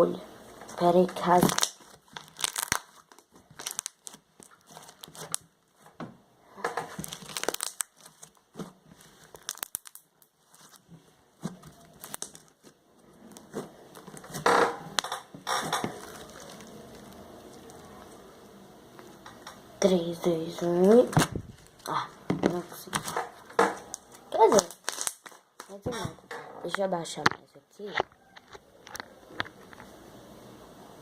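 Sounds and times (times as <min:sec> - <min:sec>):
slime crackling and popping: 0:00.7 - 0:05.8, 0:06.7 - 0:28.0.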